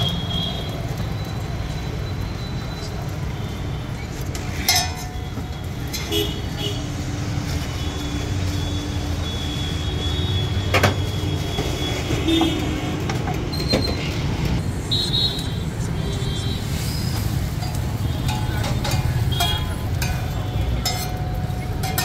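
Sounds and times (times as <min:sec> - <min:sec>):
low rumble of street traffic: 0:00.0 - 0:22.0.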